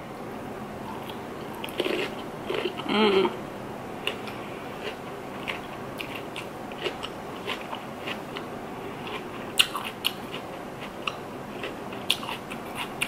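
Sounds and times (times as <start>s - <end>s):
person chewing food: 0.9s - 3.4s, 4.0s - 13.0s.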